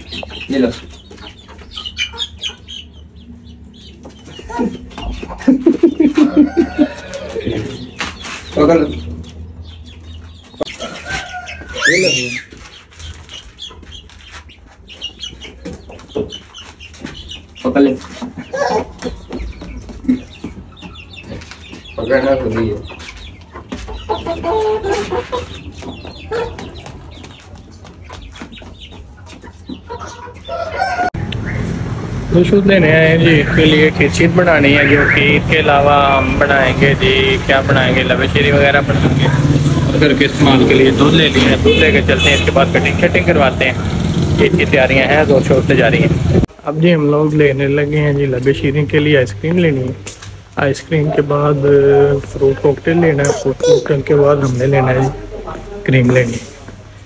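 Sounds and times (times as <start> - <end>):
chicken clucking: 0.0 - 31.7, 33.1 - 45.4, 50.8 - 56.9.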